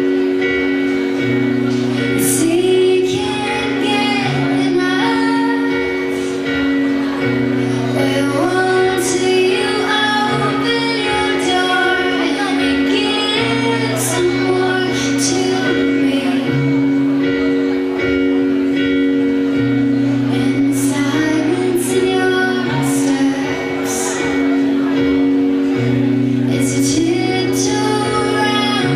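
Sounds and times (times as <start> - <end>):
woman singing lead: 0.0 - 18.2, 19.6 - 28.9
band playing slow ballad: 0.0 - 28.9
bass notes: 0.0 - 28.9.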